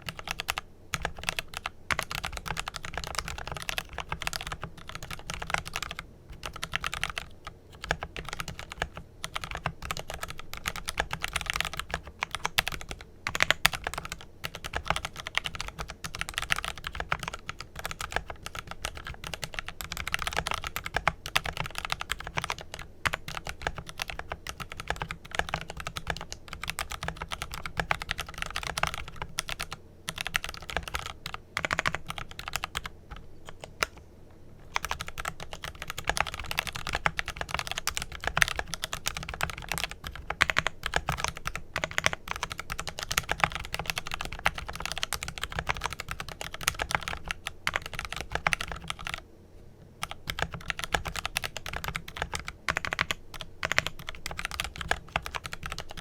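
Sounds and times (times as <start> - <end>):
mechanical keyboard typing: 0.0 - 34.0, 34.6 - 49.2, 50.0 - 56.0.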